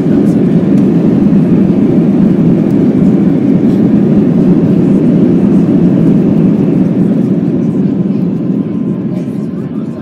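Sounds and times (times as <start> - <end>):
airplane cabin landing rollout noise: 0.0 - 10.0.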